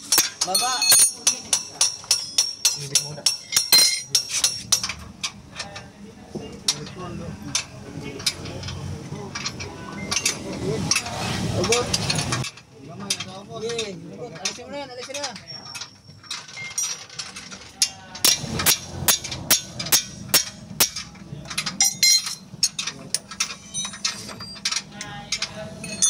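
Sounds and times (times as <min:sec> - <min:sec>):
metal tools knocking on car parts: 0:00.0 - 0:05.4, 0:06.3 - 0:26.0.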